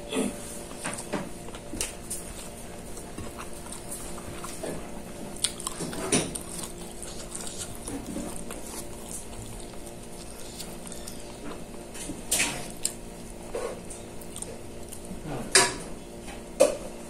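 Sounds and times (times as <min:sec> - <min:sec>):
person chewing: 0:00.0 - 0:15.3
steady low hum: 0:00.0 - 0:17.0.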